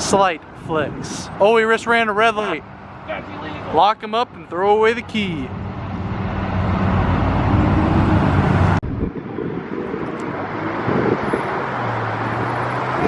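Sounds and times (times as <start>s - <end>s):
loud car engine: 0.0s - 13.0s.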